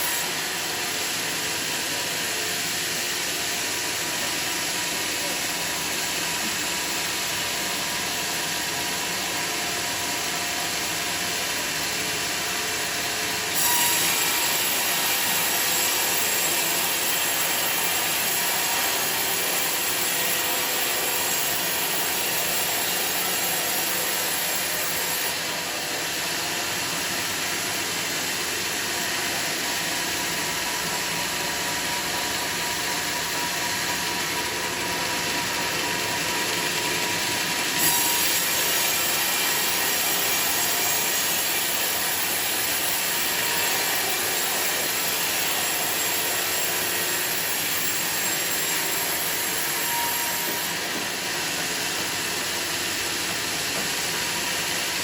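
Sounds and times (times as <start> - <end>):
saw cutting timber: 0.0 - 55.0.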